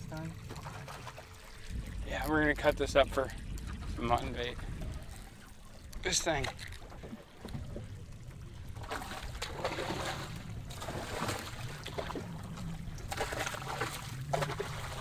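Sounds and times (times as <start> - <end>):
low steady rumble: 0.0 - 15.0
water splashing against boat hull: 0.0 - 15.0.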